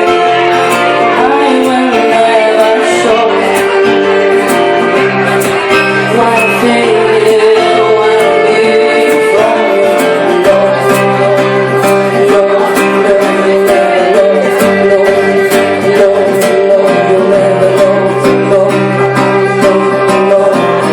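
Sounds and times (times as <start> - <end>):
strummed acoustic guitar: 0.0 - 20.9
violin melody: 0.0 - 20.9
woman singing: 0.0 - 20.9.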